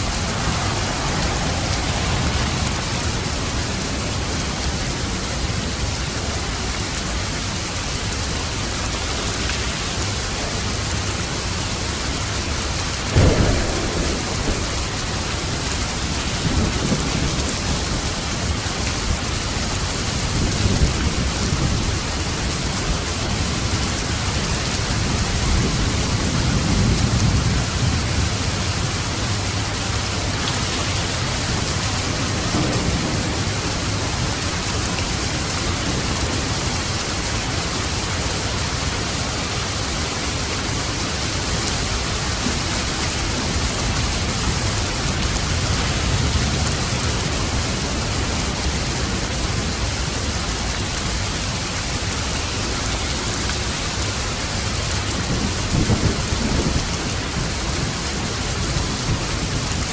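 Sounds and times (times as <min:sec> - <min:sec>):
low rumble of thunder: 0:00.0 - 0:59.9
steady rain: 0:00.0 - 0:59.9.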